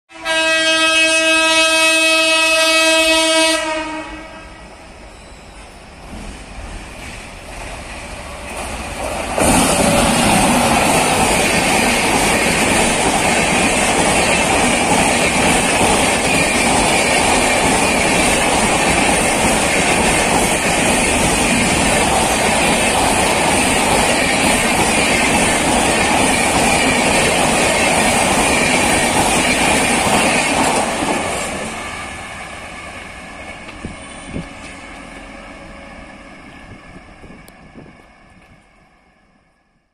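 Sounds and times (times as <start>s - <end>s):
train wheels rushing on rails: 1.0s - 39.2s
faint train rumble: 3.5s - 39.9s.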